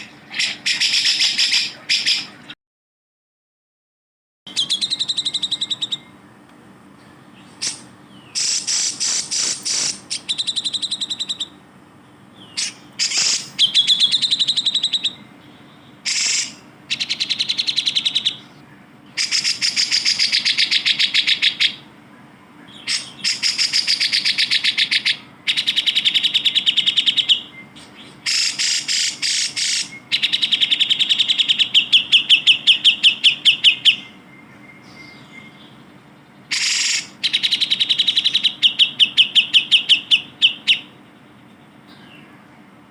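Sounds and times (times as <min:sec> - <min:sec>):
bird chattering song: 0:00.0 - 0:02.6, 0:04.5 - 0:42.8.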